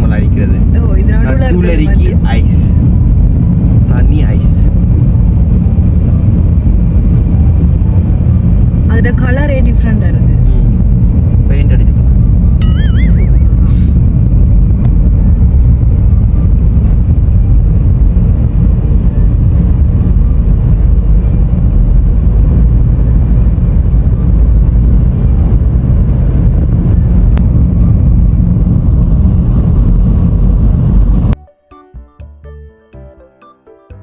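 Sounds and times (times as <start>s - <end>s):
car driving road noise: 0.0s - 31.4s.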